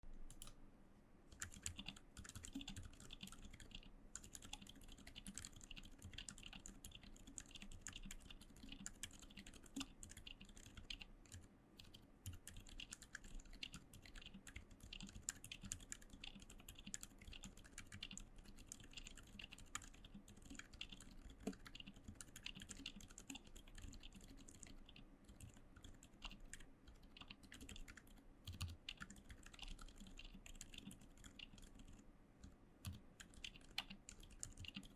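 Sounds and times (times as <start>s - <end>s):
fast typing on a keyboard: 1.3s - 32.0s, 32.8s - 34.9s.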